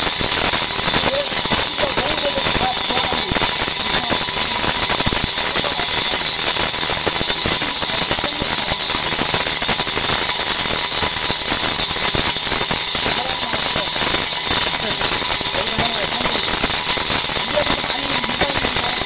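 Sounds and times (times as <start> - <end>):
brake disc lathe running: 0.0 - 19.0
cutting tip scraping chatter: 0.0 - 19.0.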